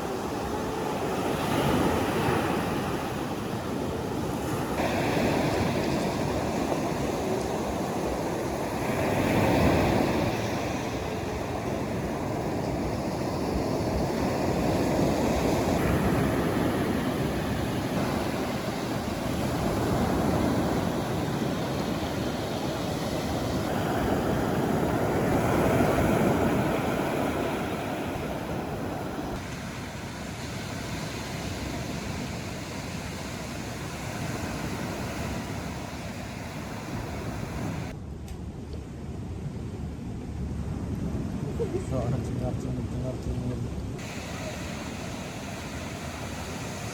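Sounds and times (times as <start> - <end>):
sea surf washing ashore: 0.0 - 38.0, 39.1 - 46.9.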